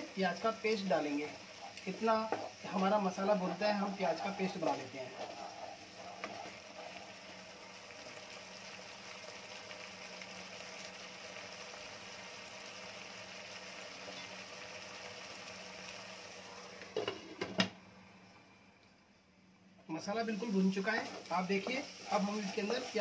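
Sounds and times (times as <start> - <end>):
masala sizzling in oil: 0.0 - 18.7, 19.9 - 23.0.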